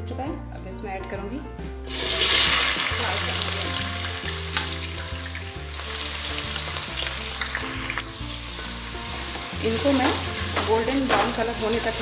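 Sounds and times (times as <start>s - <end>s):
onions sizzling in oil: 1.9s - 12.0s.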